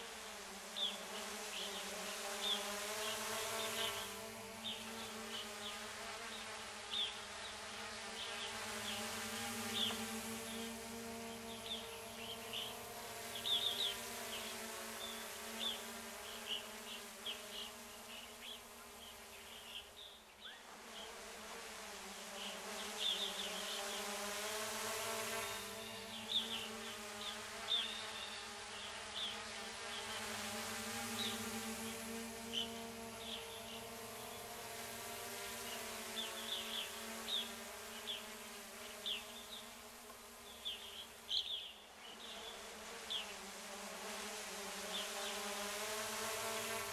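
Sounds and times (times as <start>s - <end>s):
drone propellers buzzing: 0.2s - 19.1s, 22.4s - 41.0s.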